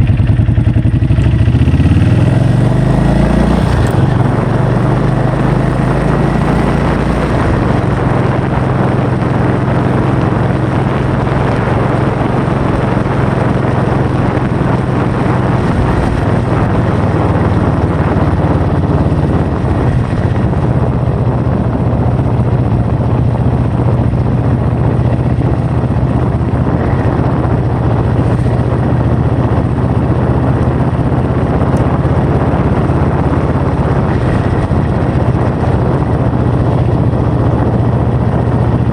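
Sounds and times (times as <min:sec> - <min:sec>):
low drone: 0:00.0 - 0:38.9
wind buffeting microphone: 0:00.0 - 0:38.9.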